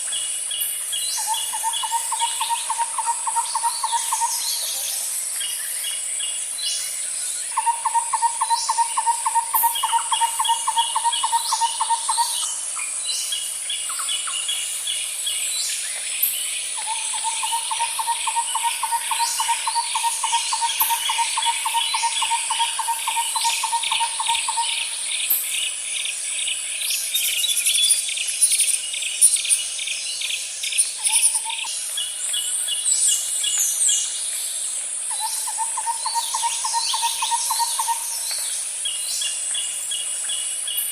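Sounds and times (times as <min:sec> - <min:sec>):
high insect drone: 0:00.0 - 0:40.9
birds chirping and calling: 0:00.8 - 0:05.1, 0:05.9 - 0:15.0, 0:16.0 - 0:34.3, 0:35.0 - 0:40.9.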